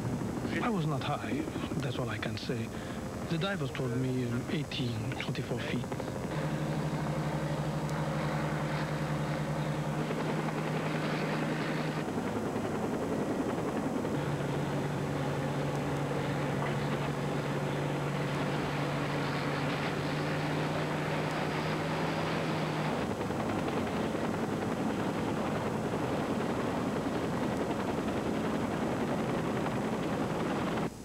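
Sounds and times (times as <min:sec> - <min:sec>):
propeller engine droning: 0:00.0 - 0:31.0.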